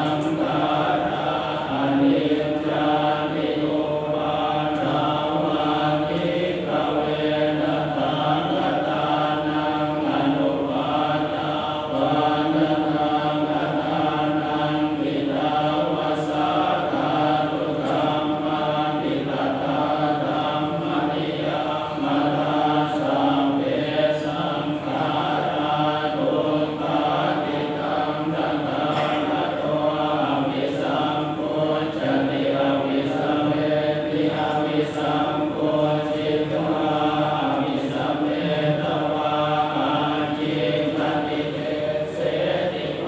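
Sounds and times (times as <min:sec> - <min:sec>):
monotone chanting: 0:00.0 - 0:43.0.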